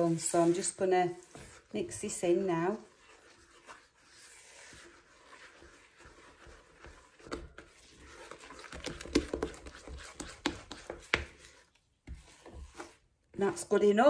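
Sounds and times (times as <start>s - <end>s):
spatula scraping bowl: 0.0s - 14.0s.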